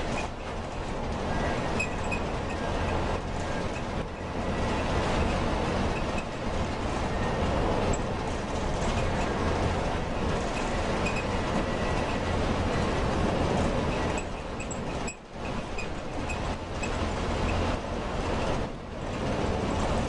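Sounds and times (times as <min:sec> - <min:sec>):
vehicle rumble: 0:00.0 - 0:20.0.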